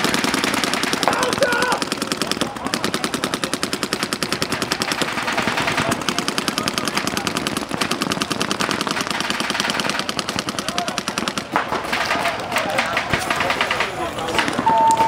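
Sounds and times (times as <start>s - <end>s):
paintball markers firing rapidly: 0.0s - 15.0s.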